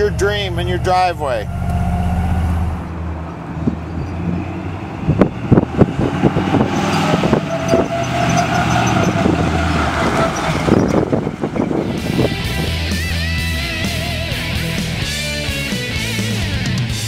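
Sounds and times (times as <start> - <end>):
truck engine driving past: 0.0 - 15.2.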